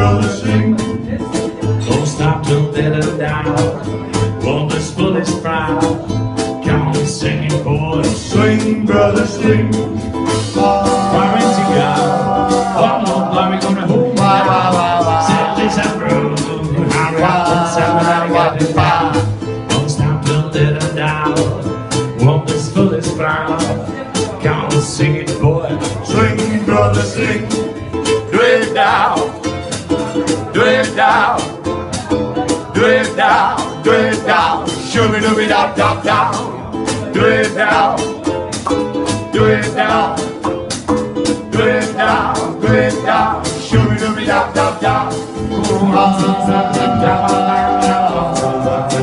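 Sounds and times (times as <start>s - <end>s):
acoustic swing band playing: 0.0s - 49.0s
strummed ukulele: 0.0s - 49.0s
washtub bass notes: 0.0s - 49.0s.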